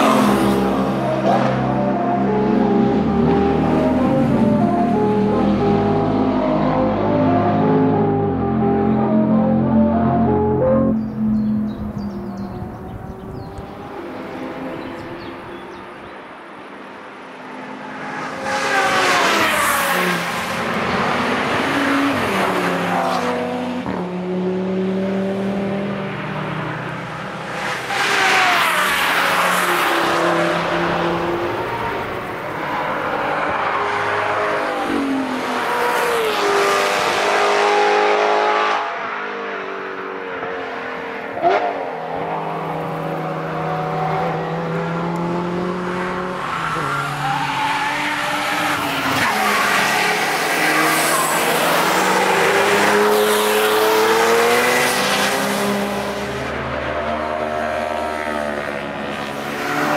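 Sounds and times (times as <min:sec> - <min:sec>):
race cars passing revving: 0:00.0 - 0:59.9.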